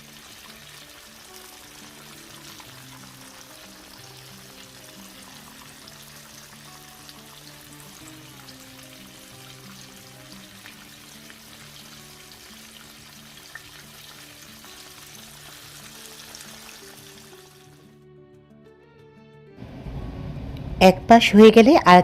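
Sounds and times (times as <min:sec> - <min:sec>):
chicken frying in oil: 0:00.0 - 0:17.8
soft background music: 0:00.0 - 0:22.0.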